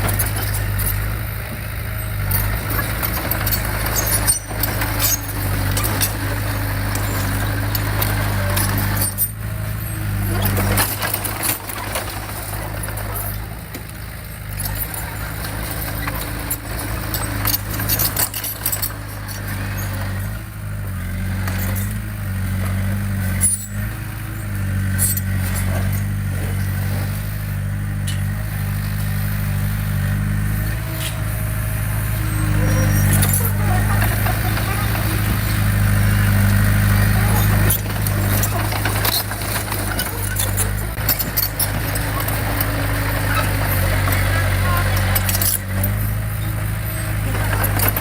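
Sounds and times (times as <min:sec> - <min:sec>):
heavy diesel engine under load: 0:00.0 - 0:48.0.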